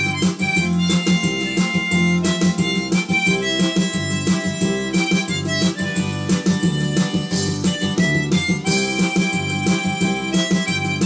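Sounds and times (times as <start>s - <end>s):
melody over plucked accompaniment: 0.0s - 11.0s.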